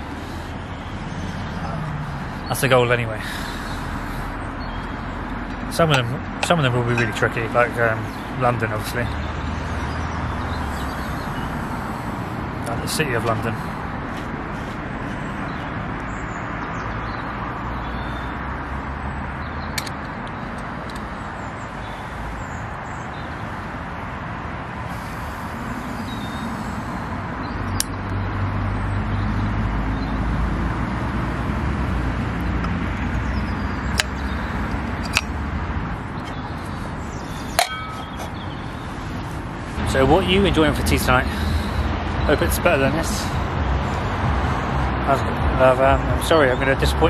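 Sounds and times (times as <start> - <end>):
deep engine rumble: 0.0 - 16.4, 24.9 - 46.8
road traffic: 0.0 - 47.0.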